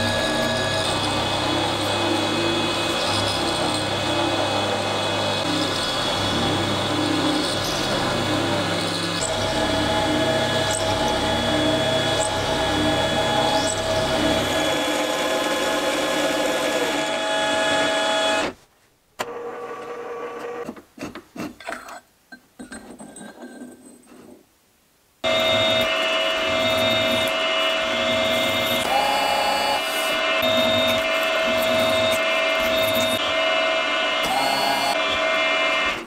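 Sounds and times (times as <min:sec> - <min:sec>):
milling machine cutting steel: 0:00.0 - 0:18.2, 0:25.2 - 0:36.0
drill boring into steel: 0:00.0 - 0:18.5, 0:25.2 - 0:36.0
motor and gear whine: 0:00.0 - 0:18.5, 0:25.2 - 0:36.0.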